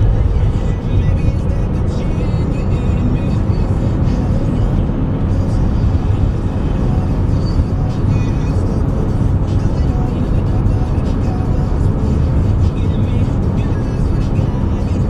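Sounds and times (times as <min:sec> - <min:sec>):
music on car radio: 0:00.0 - 0:15.0
road and engine rumble: 0:00.0 - 0:15.0.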